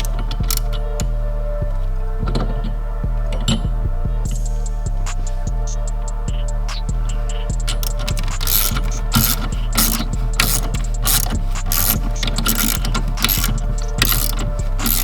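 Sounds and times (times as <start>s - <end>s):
ratchet wrench clicking: 0.0s - 1.2s, 3.4s - 15.0s
steady low hum: 0.0s - 15.0s.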